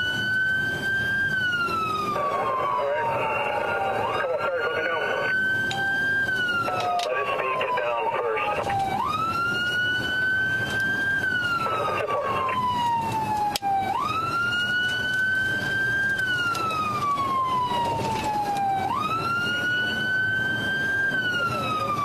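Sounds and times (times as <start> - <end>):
police siren wailing: 0.0 - 22.0
road and engine noise: 0.0 - 22.0.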